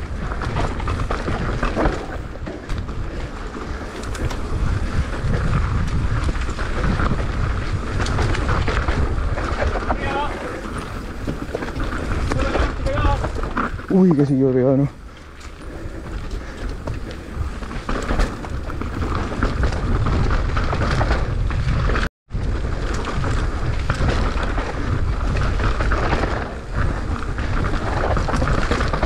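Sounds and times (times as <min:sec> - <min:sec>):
bike rattling: 0:00.0 - 0:29.0
wind and tyres on loose ground: 0:00.0 - 0:29.0.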